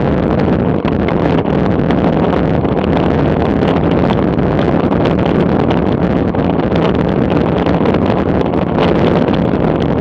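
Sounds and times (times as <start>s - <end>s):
tyre road rumble: 0.0s - 10.0s
wind buffeting microphone: 0.0s - 10.0s.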